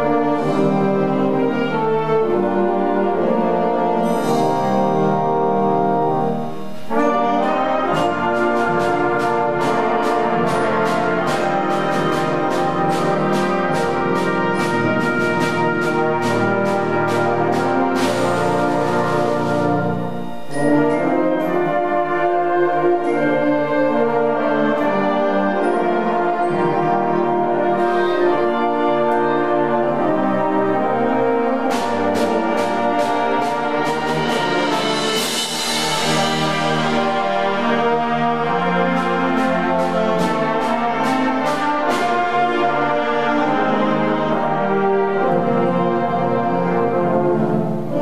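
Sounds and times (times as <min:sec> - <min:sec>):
sharp percussion strikes: 0:00.0 - 0:44.6
concert band brass and woodwind chords: 0:00.0 - 0:48.0.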